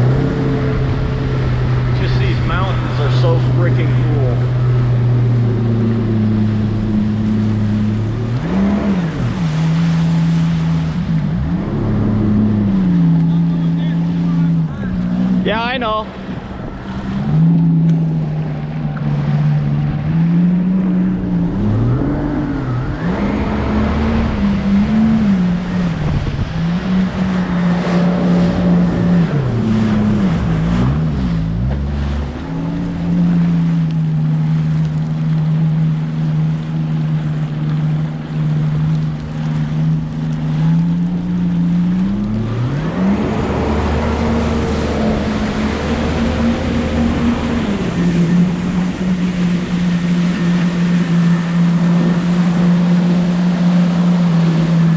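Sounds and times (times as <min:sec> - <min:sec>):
jet ski engine running: 0:00.0 - 0:54.9
water rushing: 0:00.0 - 0:54.9
wind: 0:00.0 - 0:54.9.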